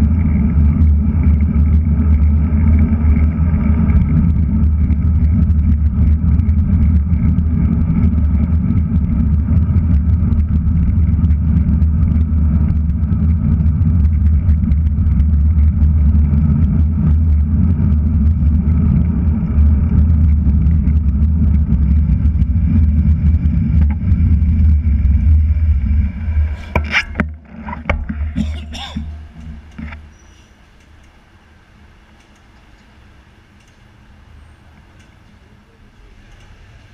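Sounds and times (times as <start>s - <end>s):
wind buffeting microphone: 0.0s - 30.2s
road noise: 0.0s - 36.9s.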